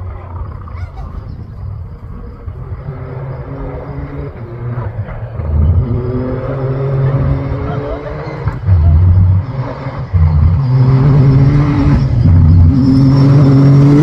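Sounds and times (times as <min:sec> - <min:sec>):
vehicle engine running hard: 0:00.0 - 0:14.0.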